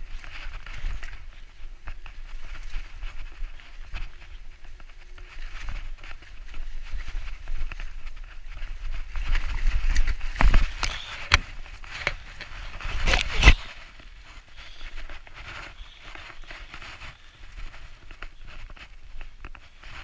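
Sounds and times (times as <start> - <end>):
mountain bike rattling on dirt: 0.0 - 20.0.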